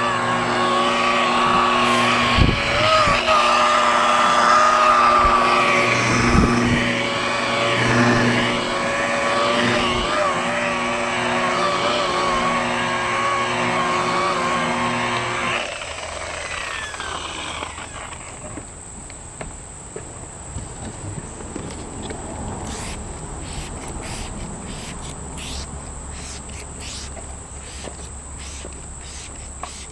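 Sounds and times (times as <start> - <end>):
electric buffer motor whine: 0.0 - 18.8, 22.3 - 29.9.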